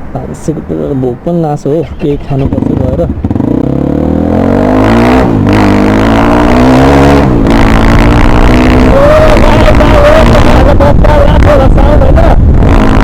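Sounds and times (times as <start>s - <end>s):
loud motorcycle accelerating: 2.0s - 13.0s.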